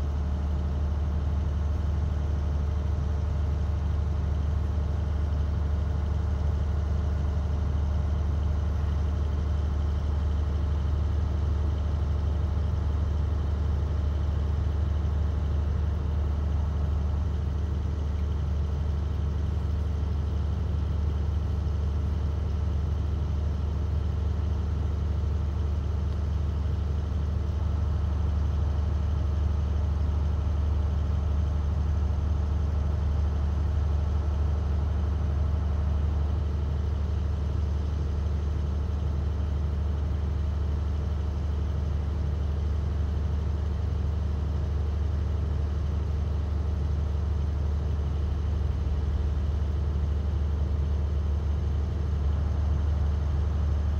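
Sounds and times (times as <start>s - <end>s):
engine deep steady drone: 0.0s - 53.9s.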